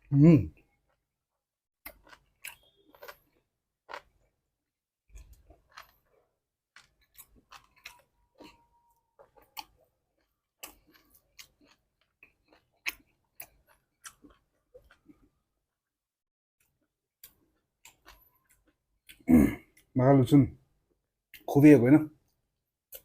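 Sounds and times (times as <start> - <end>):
person chewing food: 0.6 - 16.0, 16.6 - 19.9, 22.3 - 23.0.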